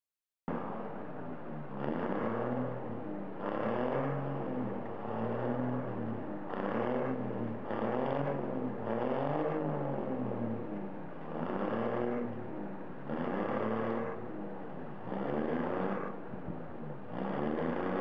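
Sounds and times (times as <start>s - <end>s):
vehicle engine revving: 0.5s - 18.0s.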